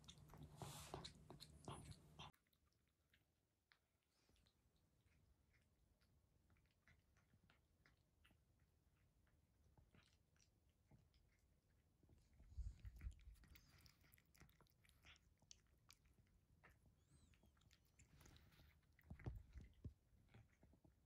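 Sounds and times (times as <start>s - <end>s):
cat eating from a bowl: 0.0s - 21.0s.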